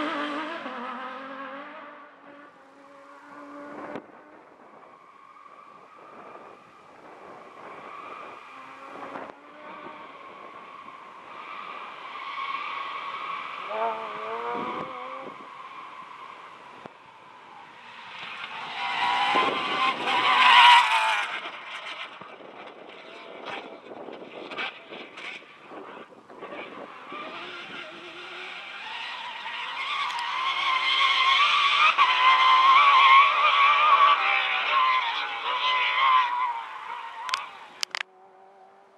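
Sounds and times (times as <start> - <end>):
rally car engine at high revs: 0.0 - 38.9.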